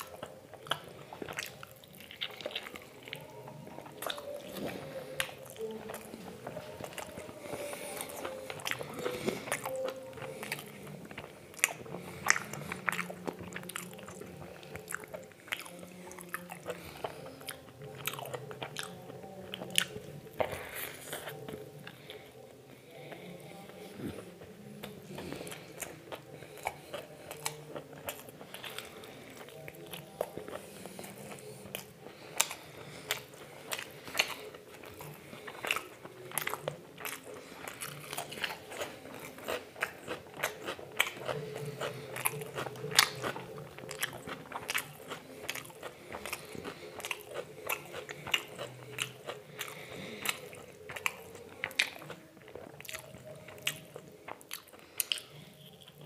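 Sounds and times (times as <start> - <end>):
chewing crunchy food: 0.0 - 56.0
faint steady hum: 0.0 - 56.0.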